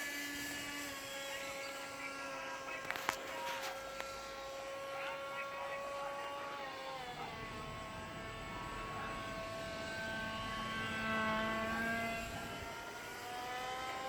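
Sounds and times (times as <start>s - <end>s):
model aeroplane motor whining: 0.0s - 14.0s.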